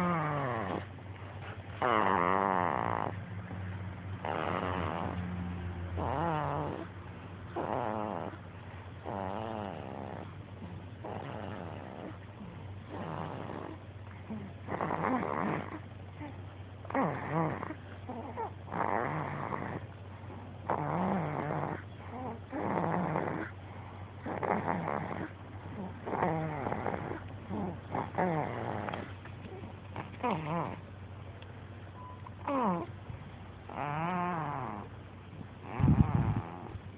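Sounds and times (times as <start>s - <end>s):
baby snoring: 0.0s - 0.9s, 1.8s - 3.2s, 4.2s - 5.3s, 5.9s - 6.9s, 7.5s - 8.4s, 9.0s - 30.8s, 32.4s - 32.9s, 33.7s - 34.9s, 35.6s - 36.8s
steady low hum: 0.0s - 36.9s.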